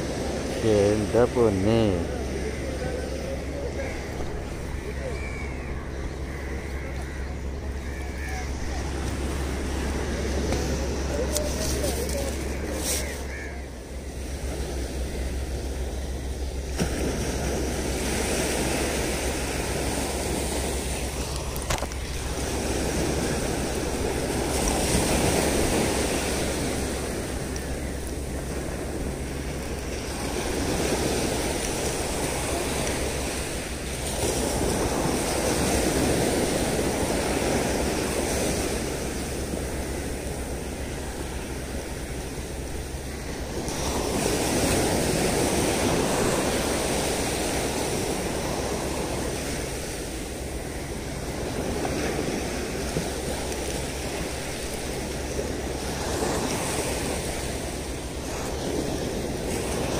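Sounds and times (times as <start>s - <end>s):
surf breaking on beach: 0.0s - 59.9s
wind rumble on microphone: 2.2s - 59.9s.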